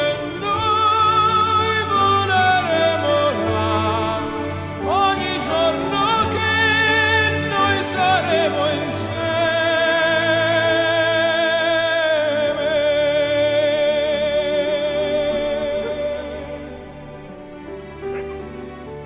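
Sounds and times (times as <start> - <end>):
orchestral ballad: 0.0 - 19.0.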